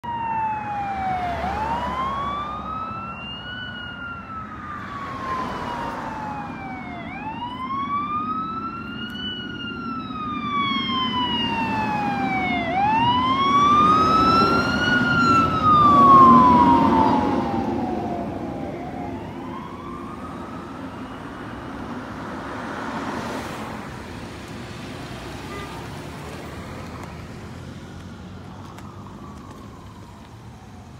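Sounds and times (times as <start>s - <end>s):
fire engine siren wailing: 0.0s - 23.4s, 26.5s - 30.9s
truck engine and road noise: 0.0s - 30.9s.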